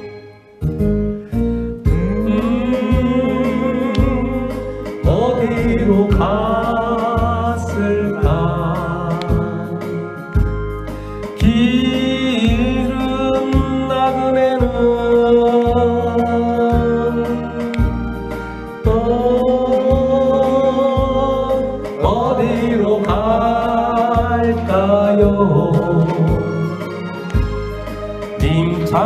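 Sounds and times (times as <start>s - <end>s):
karaoke backing track: 0.0s - 29.0s
man singing into microphone: 1.9s - 10.5s, 11.2s - 27.2s, 28.4s - 29.0s.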